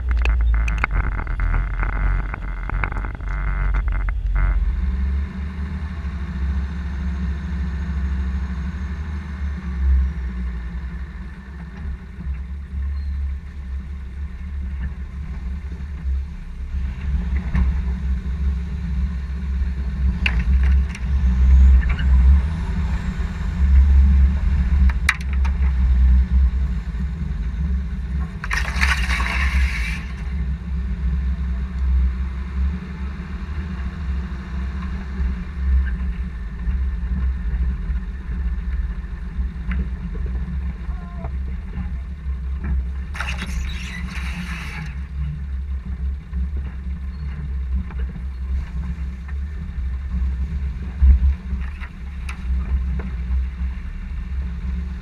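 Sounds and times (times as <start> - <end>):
engine low rumble: 0.0 - 55.0.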